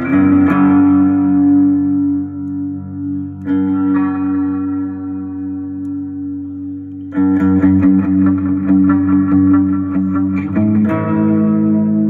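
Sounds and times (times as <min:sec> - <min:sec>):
electric guitar with delay: 0:00.0 - 0:12.0.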